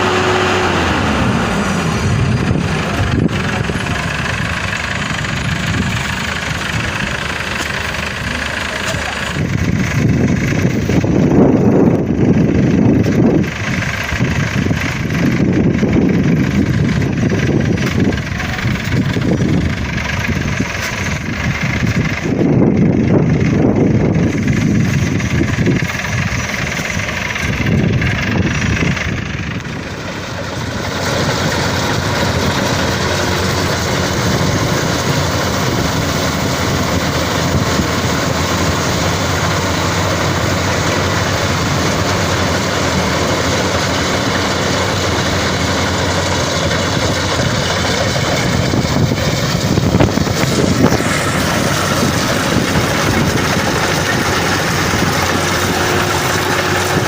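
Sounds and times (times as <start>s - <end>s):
combine harvester engine rumble: 0.0s - 57.0s.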